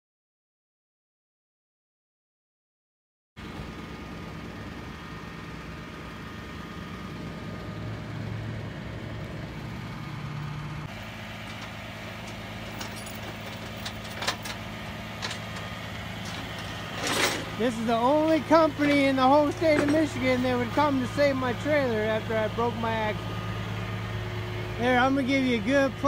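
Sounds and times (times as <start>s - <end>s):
truck engine idling: 3.4s - 26.0s.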